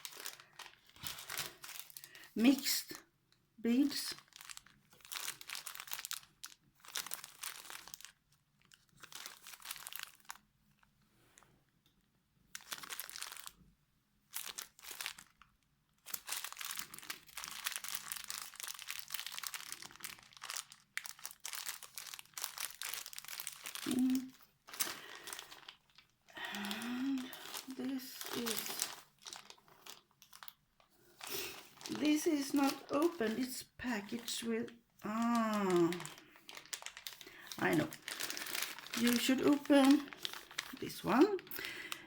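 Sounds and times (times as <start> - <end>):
crinkly packaging rustling: 0.0 - 3.1, 3.7 - 42.0.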